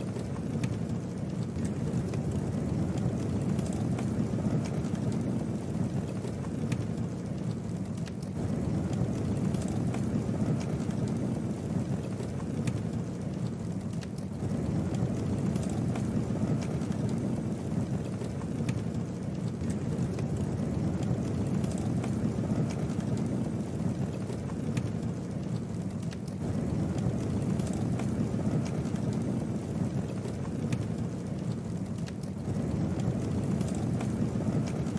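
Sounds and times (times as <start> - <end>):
campfire flame rush: 0.0 - 34.9
wood crackles and pops: 0.0 - 34.9.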